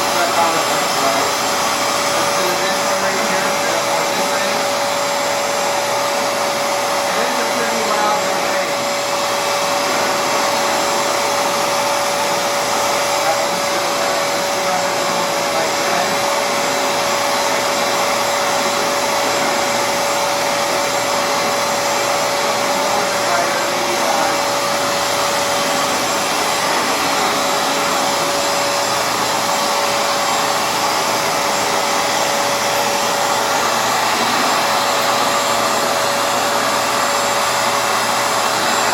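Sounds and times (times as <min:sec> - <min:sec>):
floor cleaner motor whine: 0:00.0 - 0:38.9
suction air rushing: 0:00.0 - 0:38.9.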